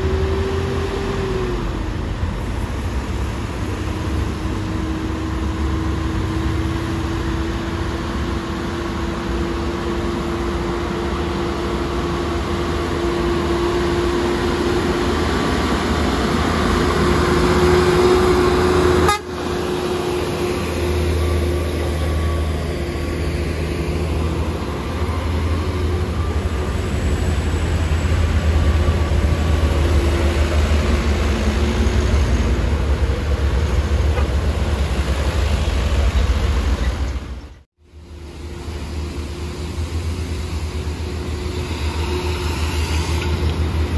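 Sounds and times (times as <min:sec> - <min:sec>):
diesel truck engine working uphill: 0:00.0 - 0:43.9
passing traffic: 0:00.0 - 0:43.9.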